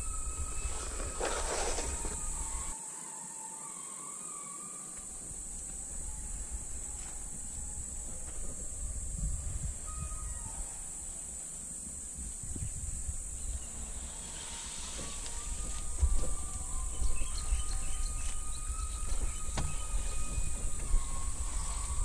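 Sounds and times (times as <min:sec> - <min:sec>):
high-pitched insect buzz: 0:00.0 - 0:22.0.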